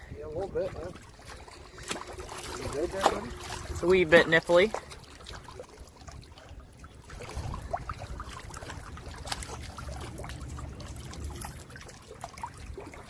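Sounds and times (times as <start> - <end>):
faint water lapping: 0.0 - 13.0
wind rumbling on microphone: 0.0 - 13.0.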